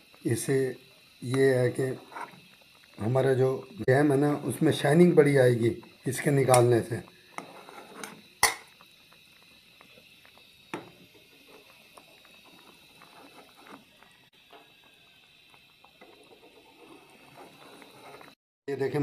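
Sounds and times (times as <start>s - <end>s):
jam simmering with bubbles: 0.0s - 19.0s.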